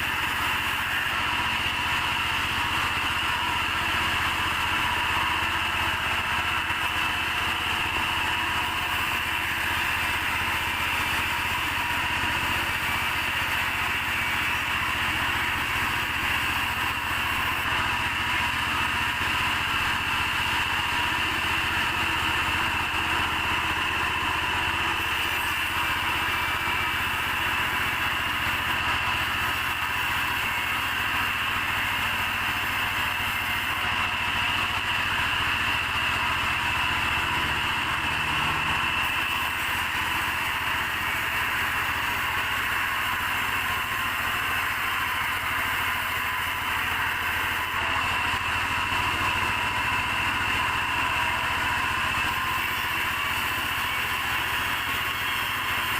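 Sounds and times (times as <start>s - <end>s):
sawmill saw humming and whining: 0.0s - 55.9s.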